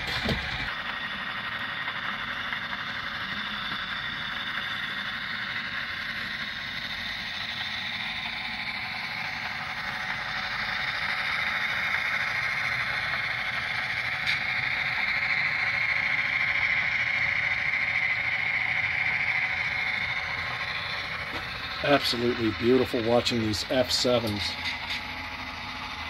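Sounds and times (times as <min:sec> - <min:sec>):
model train motor whirring: 0:00.0 - 0:26.0.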